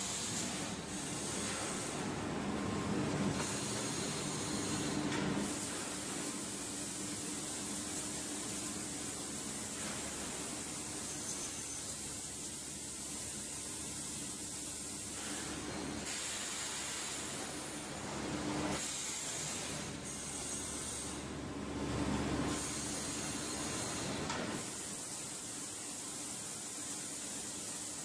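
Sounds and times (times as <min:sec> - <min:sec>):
vacuum forming machine hissing: 0:00.0 - 0:28.0.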